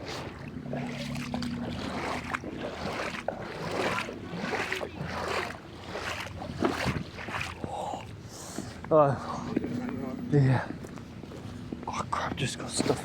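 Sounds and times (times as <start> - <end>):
footsteps sloshing through water: 0.0 - 13.0.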